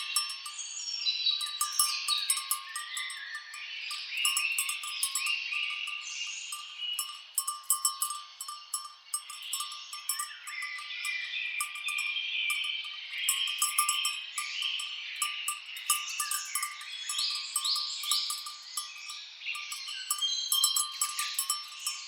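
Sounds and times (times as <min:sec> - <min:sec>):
birds chirping and calling: 0:00.0 - 0:22.0
cattle bells clinking: 0:00.0 - 0:22.0.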